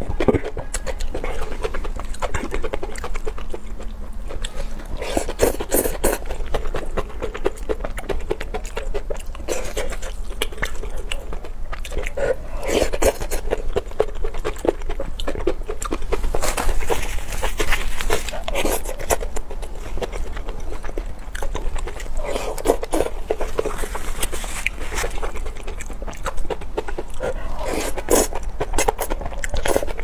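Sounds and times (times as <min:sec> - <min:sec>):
person chewing with mouth clicks: 0:00.0 - 0:30.0.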